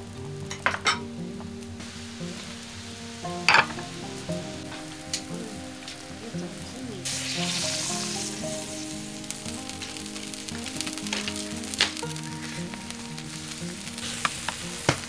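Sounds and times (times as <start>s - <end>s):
soft background music: 0.0s - 15.0s
water boiling and bubbling: 0.0s - 15.0s.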